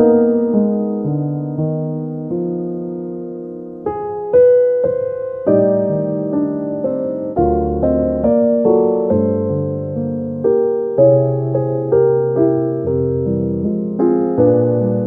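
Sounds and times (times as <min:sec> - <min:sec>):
slow soft piano chords: 0:00.0 - 0:15.0.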